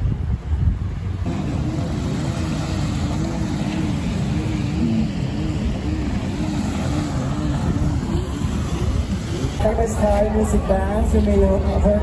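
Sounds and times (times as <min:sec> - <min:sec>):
wind buffeting microphone: 0:00.0 - 0:12.0
wavering pitched hum: 0:01.3 - 0:12.0.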